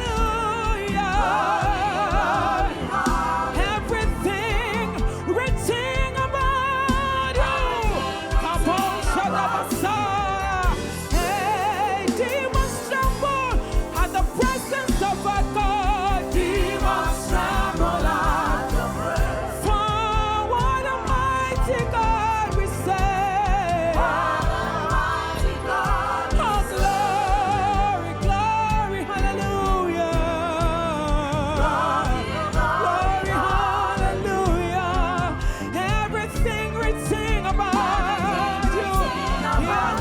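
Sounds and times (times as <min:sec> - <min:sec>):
accompaniment with steady beat: 0:00.0 - 0:40.0
person singing with vibrato: 0:00.0 - 0:40.0.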